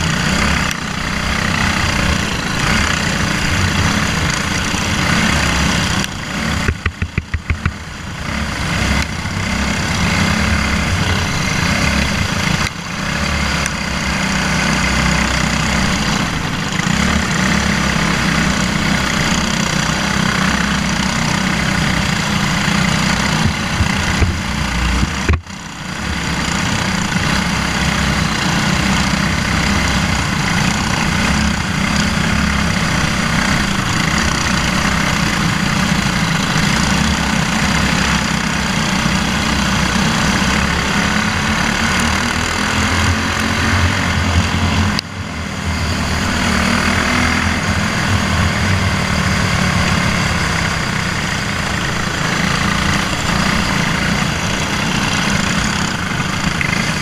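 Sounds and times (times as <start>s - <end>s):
kart engine running: 0.0s - 57.0s
other karts running nearby: 0.0s - 57.0s.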